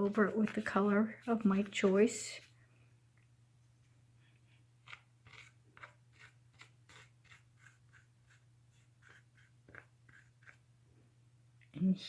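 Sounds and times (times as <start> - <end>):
paintbrush strokes on canvas: 0.0 - 2.8, 3.6 - 10.6.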